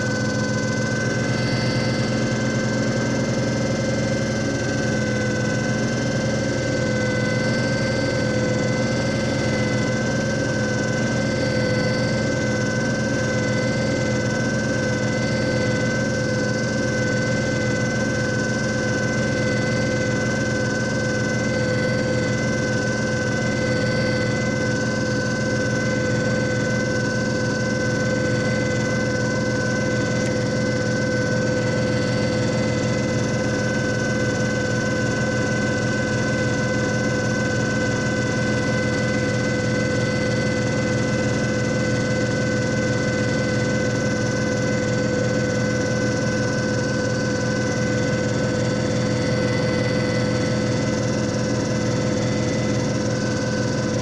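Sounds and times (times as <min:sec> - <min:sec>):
disc repair machine humming: 0:00.0 - 0:54.0
high steady whining tones: 0:00.0 - 0:54.0.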